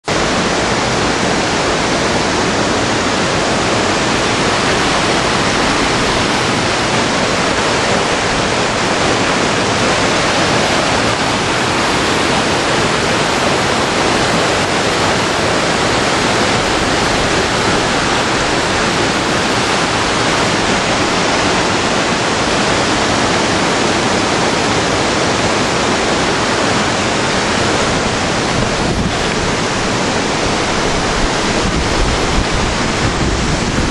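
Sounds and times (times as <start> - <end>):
stream rushing over boulders: 0.0 - 33.9.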